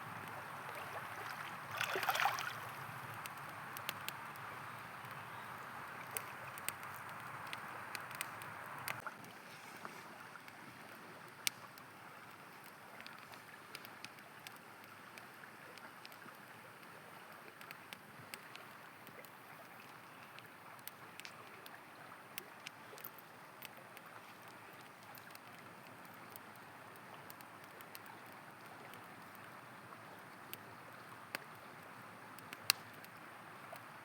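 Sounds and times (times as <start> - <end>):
campfire crackling and popping: 0.0 - 34.0
river flowing: 0.0 - 34.0.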